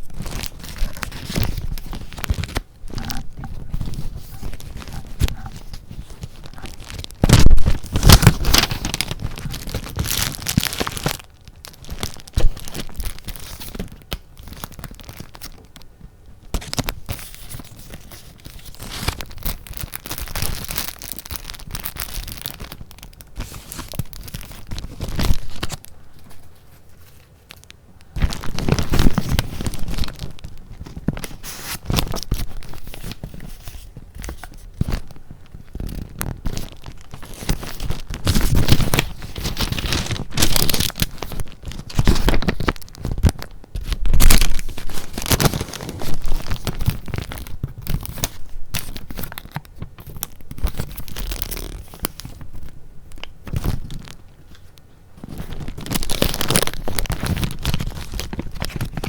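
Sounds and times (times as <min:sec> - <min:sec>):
paper rustling and crinkling: 0:00.0 - 0:59.0.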